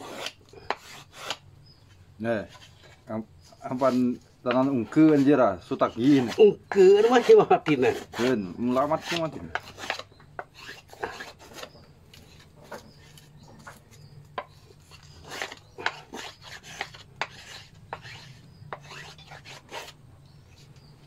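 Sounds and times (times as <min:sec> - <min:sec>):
knife scraping wood: 0:00.0 - 0:20.9.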